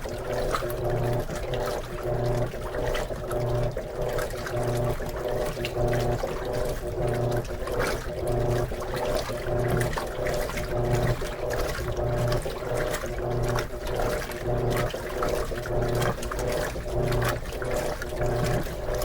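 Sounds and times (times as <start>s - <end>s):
washing machine motor hum: 0.0s - 19.0s
water and clothes sloshing: 0.0s - 19.0s.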